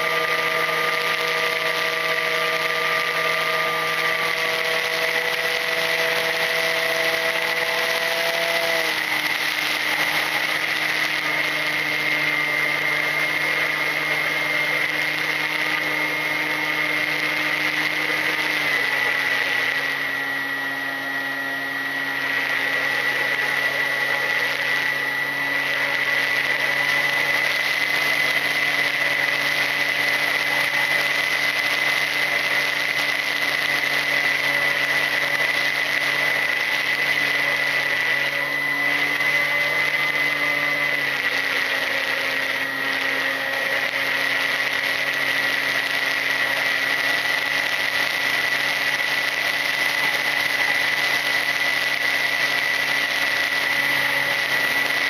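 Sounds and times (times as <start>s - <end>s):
electric motor hum and whine: 0.0s - 55.0s.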